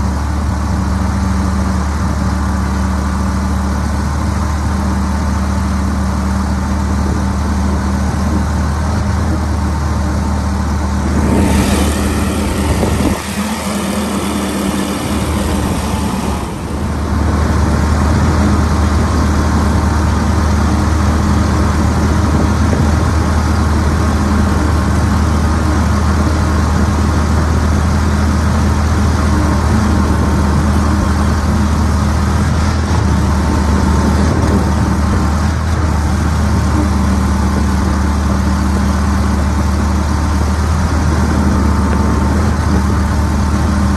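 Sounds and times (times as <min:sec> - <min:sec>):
boat motor running hard: 0:00.0 - 0:43.9.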